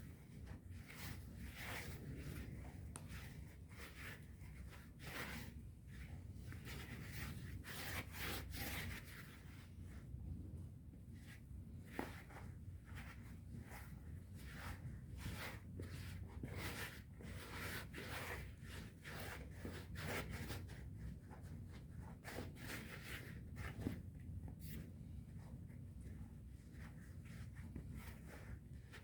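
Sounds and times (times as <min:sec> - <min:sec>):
low steady background hum: 0:00.0 - 0:29.0.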